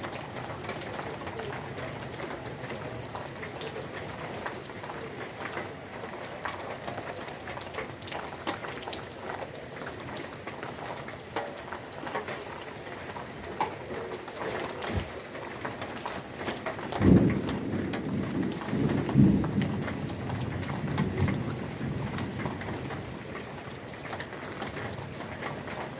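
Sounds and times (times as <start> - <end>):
rain drops ticking on surfaces: 0.0 - 25.9.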